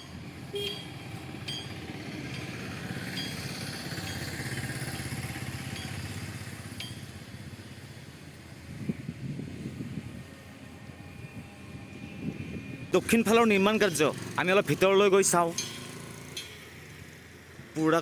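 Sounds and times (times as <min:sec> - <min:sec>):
motorcycle engine running: 0:00.0 - 0:10.9, 0:11.6 - 0:18.0.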